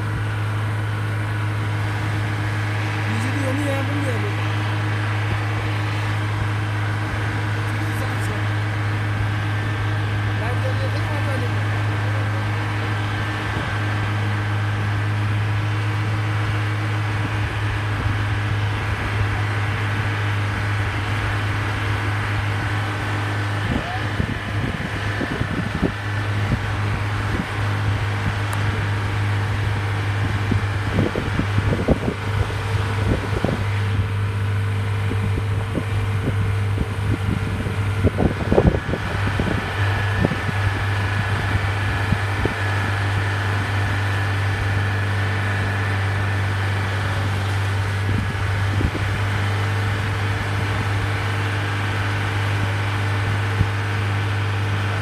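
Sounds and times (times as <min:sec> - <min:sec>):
engine and road drone in cabin: 0:00.0 - 0:55.0.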